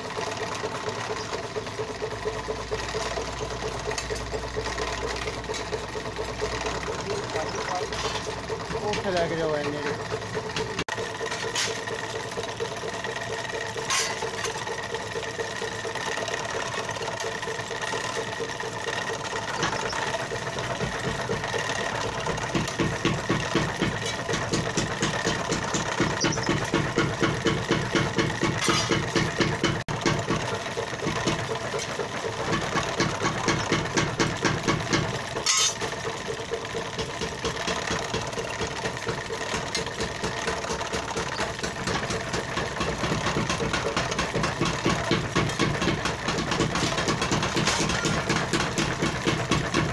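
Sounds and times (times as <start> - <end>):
motor hum: 0.0 - 49.9
shearing blade chopping metal: 3.9 - 14.8, 19.3 - 36.3, 36.9 - 49.9.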